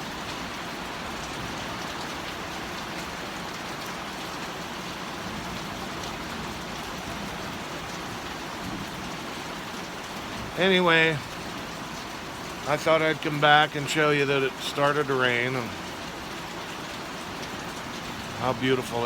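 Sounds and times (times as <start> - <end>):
gentle rain hiss: 0.0 - 19.0.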